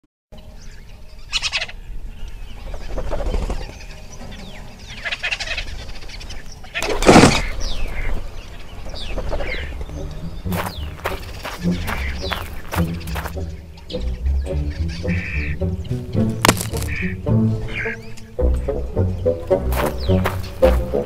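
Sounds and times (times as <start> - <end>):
bird calls and chirps: 0.4 - 21.0.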